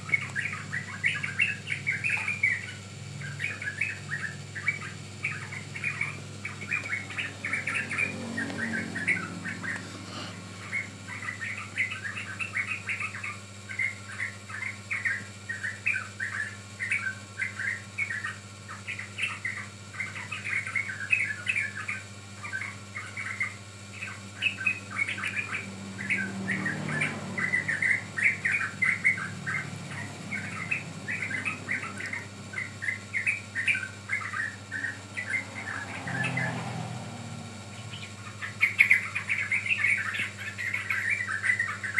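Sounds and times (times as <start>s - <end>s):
bulbuls chattering chirps: 0.0s - 41.9s.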